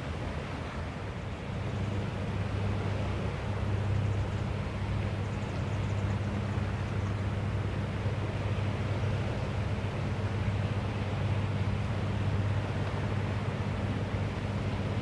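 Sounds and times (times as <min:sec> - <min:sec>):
motorboat engine droning: 0:00.0 - 0:15.0
wind and water hiss: 0:00.0 - 0:15.0.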